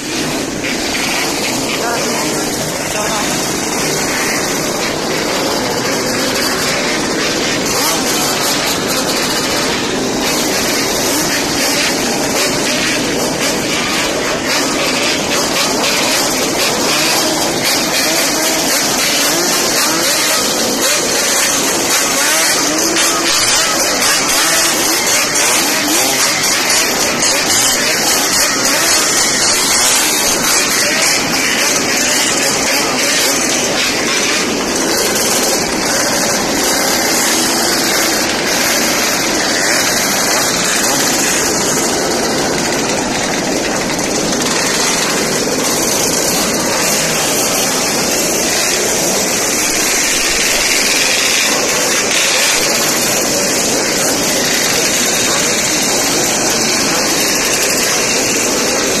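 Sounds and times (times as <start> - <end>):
motorcycle engines running: 0.0 - 59.0.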